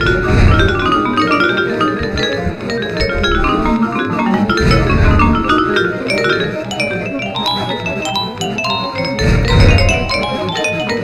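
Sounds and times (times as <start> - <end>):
low musical pulse: 0.0 - 11.0
quick runs of pitched notes: 0.0 - 11.0.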